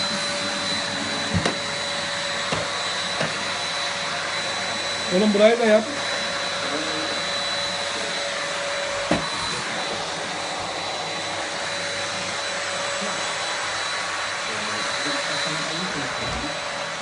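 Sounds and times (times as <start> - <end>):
vacuum cleaner whining: 0.0 - 17.0.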